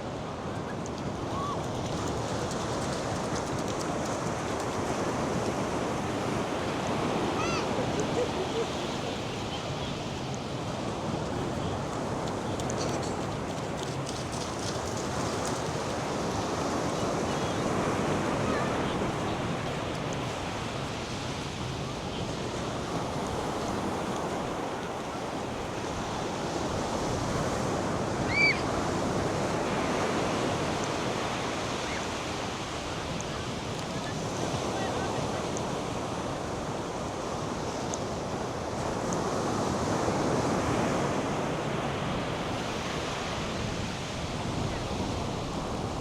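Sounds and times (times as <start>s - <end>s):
surf breaking on a beach: 0.0s - 46.0s
wind: 0.0s - 46.0s.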